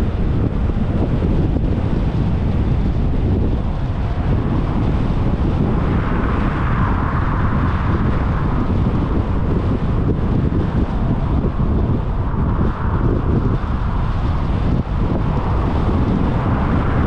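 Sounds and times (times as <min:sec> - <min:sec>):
road noise: 0:00.0 - 0:17.0
wind rushing: 0:00.0 - 0:17.0.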